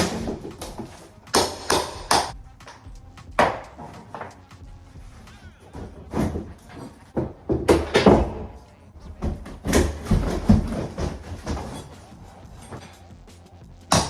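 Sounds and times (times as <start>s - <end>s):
scraping on window frame: 0.0s - 13.0s.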